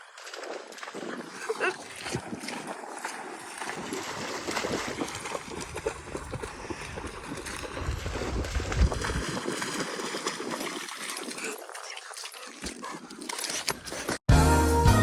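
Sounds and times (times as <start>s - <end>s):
splashing through shallow water: 0.0s - 14.2s.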